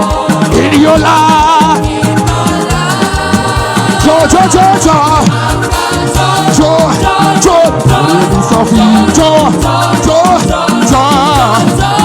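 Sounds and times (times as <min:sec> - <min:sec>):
band playing dance beat: 0:00.0 - 0:12.0
voices singing: 0:00.0 - 0:12.0.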